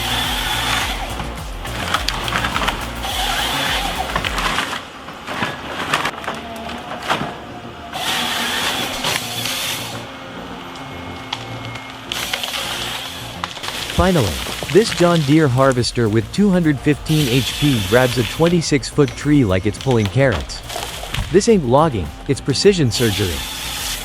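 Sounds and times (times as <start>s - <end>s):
chainsaw cutting wood: 0.0s - 6.4s, 7.9s - 24.0s.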